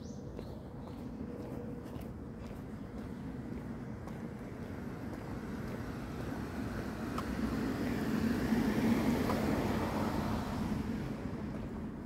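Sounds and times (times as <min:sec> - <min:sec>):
vehicle passing by: 0:00.9 - 0:12.0.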